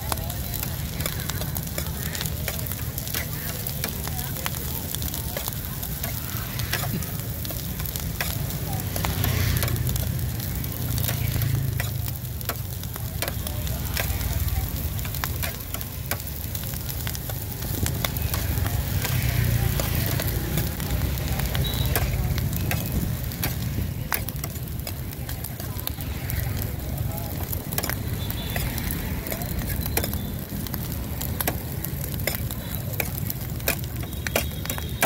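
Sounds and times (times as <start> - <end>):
food sizzling in a metal pan: 0.0 - 35.0.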